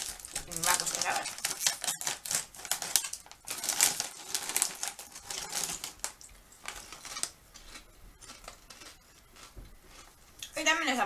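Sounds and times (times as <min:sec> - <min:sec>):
plastic crisp bag crinkling: 0:00.0 - 0:10.1.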